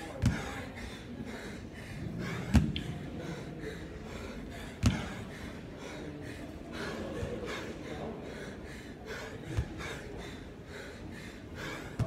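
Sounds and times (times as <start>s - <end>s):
heavy breathing: 0.0s - 12.0s.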